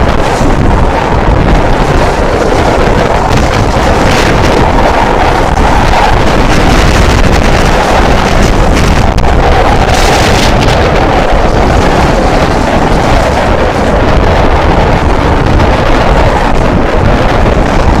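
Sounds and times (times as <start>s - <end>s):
train rumbling at speed: 0.0s - 18.0s
wind buffeting microphone: 0.0s - 18.0s.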